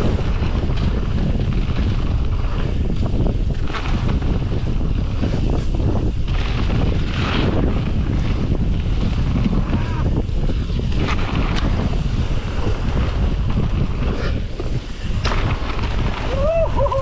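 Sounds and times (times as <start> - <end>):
bike rattling clicks: 0.0 - 17.0
bike tyres rumbling on dirt: 0.0 - 17.0
wind buffeting microphone: 0.0 - 17.0.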